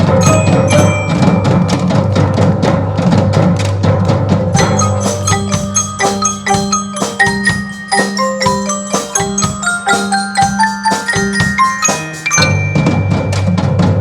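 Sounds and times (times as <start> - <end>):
marimba melody: 0.0 - 2.5, 4.6 - 14.0.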